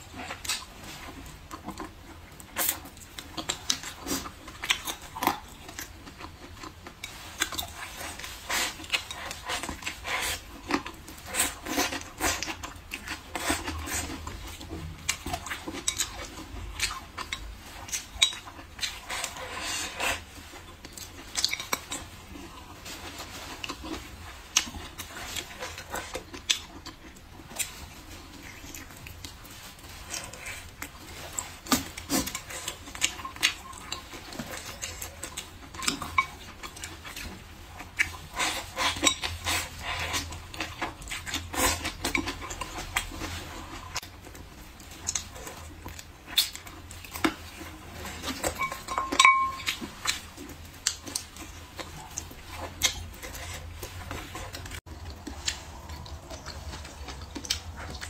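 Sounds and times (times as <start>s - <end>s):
chewing and lip-smacking: 0.0s - 58.0s.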